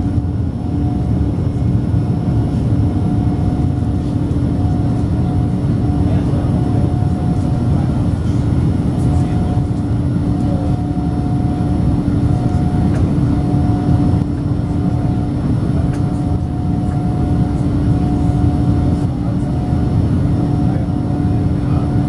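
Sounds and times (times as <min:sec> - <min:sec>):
jet engine cabin rumble: 0:00.0 - 0:22.0.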